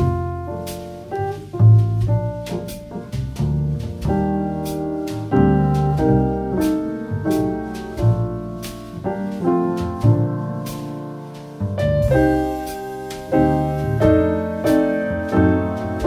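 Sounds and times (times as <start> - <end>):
light percussion: 0.0 - 16.0
low bass notes: 0.0 - 16.0
piano chords: 0.0 - 16.0.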